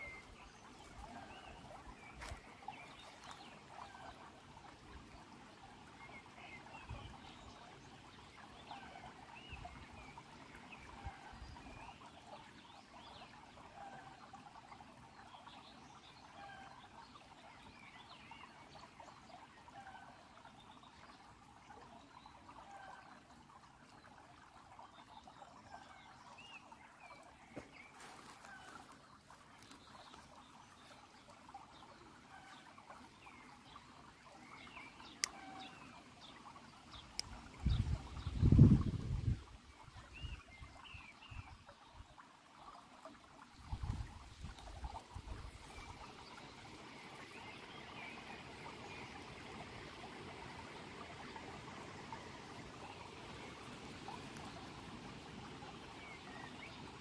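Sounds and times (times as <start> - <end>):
stream trickling over pebbles: 0.0 - 57.0.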